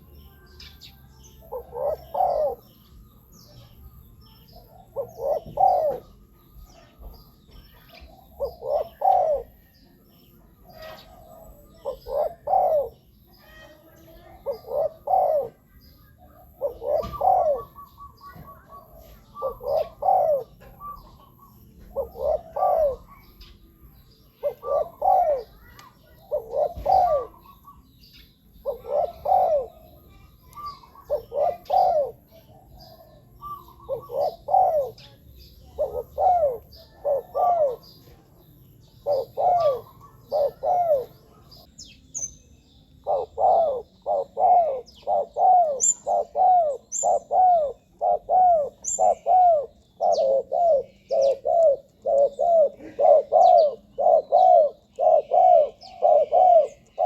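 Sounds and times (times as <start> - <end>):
dove cooing: 0.0 - 27.8, 28.5 - 41.7, 43.0 - 57.0
small birds chirping faintly: 0.0 - 57.0.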